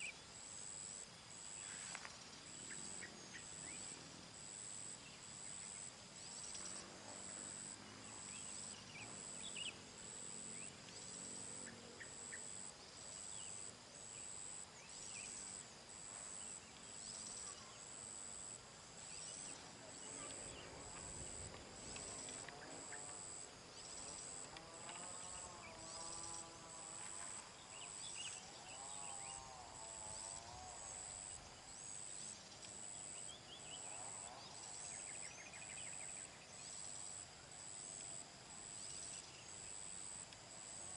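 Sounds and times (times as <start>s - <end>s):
high insect drone: 0.0s - 40.9s
repeating high insect chirp: 0.0s - 40.9s.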